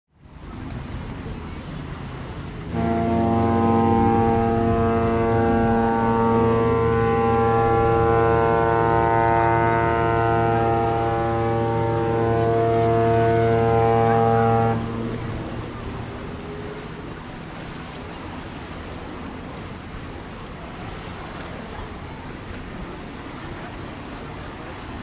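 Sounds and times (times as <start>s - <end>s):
ship's horn blast: 2.2s - 25.0s.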